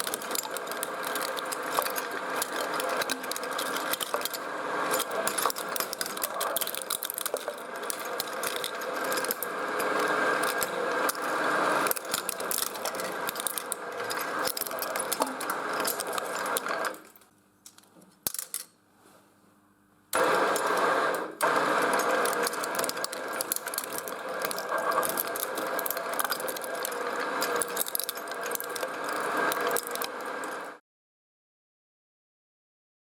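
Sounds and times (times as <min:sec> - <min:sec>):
shredder motor: 0:00.0 - 0:17.1, 0:20.2 - 0:30.8
metal and plastic crunching: 0:00.0 - 0:18.7, 0:20.2 - 0:30.8.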